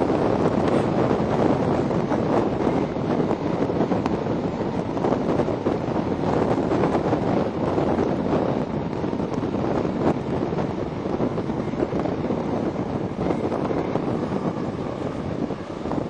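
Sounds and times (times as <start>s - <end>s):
train wheels on track: 0.0s - 16.0s
wind rushing over microphone: 0.0s - 16.0s.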